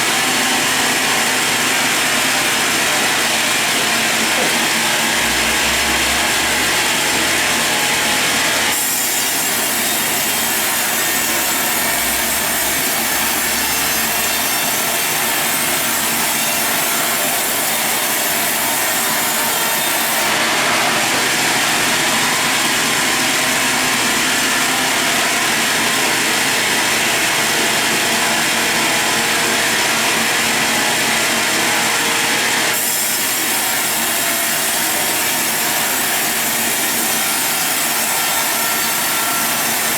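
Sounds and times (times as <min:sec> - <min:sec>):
power saw cutting log: 0:00.0 - 0:39.9.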